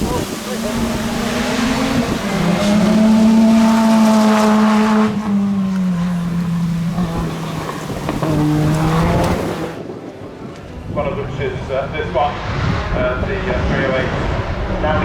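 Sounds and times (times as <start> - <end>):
rally car engine at high revs: 0.0 - 9.9, 12.1 - 15.0.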